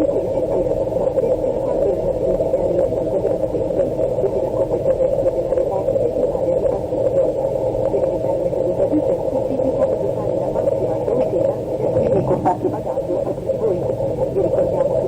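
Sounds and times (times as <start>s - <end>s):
muffled engine rumble: 0.0s - 15.0s.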